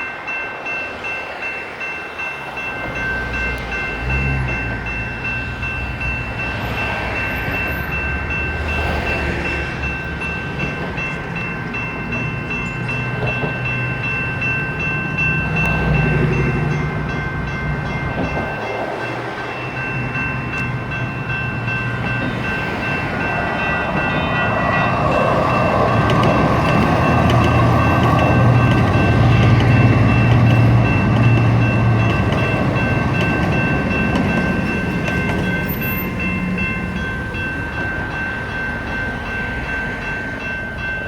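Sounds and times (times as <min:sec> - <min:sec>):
electronic crossing bells: 0:00.0 - 0:41.0
light rail train passing: 0:00.0 - 0:41.0.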